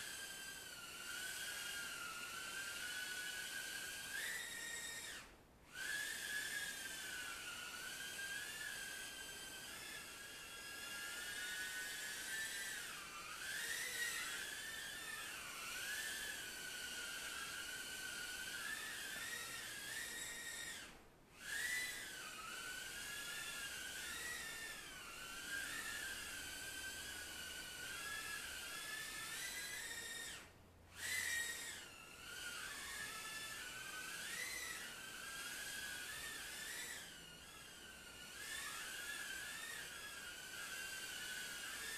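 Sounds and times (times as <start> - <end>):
quadcopter propellers whining: 0.0 - 41.9.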